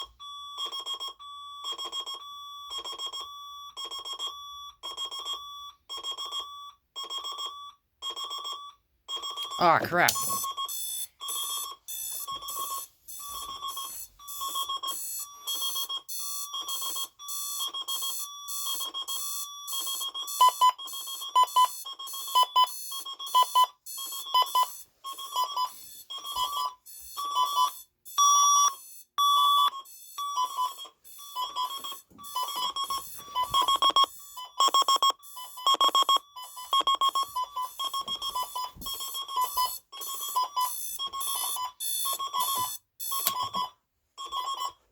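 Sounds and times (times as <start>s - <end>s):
digital alarm clocks beeping: 0.0s - 44.8s.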